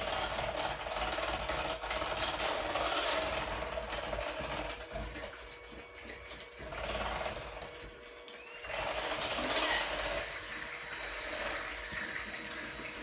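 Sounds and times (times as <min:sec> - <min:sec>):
electric hand mixer whirring: 0:00.0 - 0:13.0.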